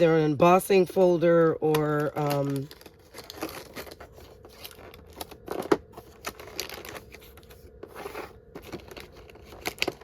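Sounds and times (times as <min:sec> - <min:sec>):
cardboard and paper packaging rustling: 0:01.0 - 0:10.0.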